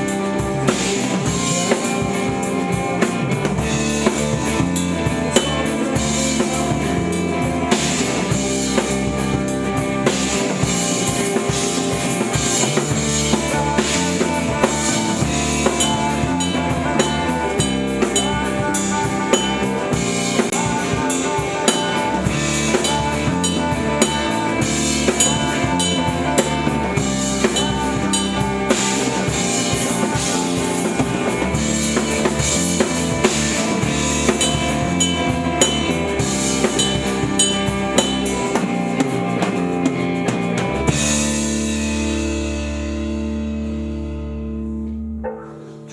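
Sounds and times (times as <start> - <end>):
pitched instruments playing: 0.0 - 39.8.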